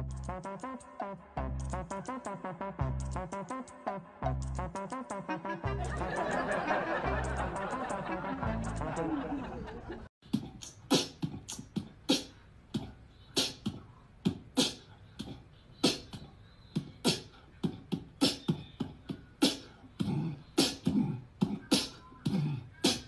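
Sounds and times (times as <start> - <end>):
beatboxing: 0.0 - 9.4, 10.2 - 23.0.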